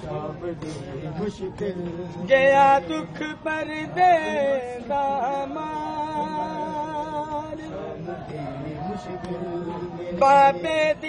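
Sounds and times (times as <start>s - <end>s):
person chanting a lament: 0.0s - 11.0s.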